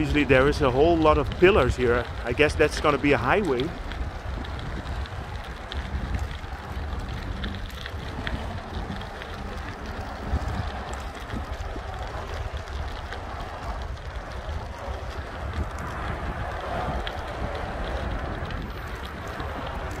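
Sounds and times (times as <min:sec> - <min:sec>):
bicycle clicks and rattles: 0:00.0 - 0:20.0
wind buffeting microphone: 0:00.0 - 0:20.0.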